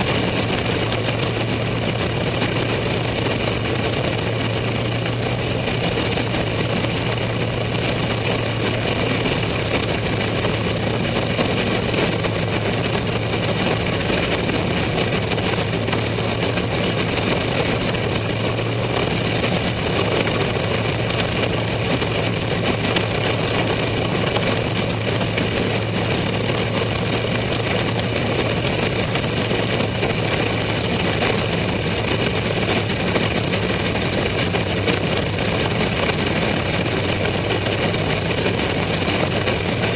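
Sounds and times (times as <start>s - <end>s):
race car engines droning: 0.0s - 39.9s.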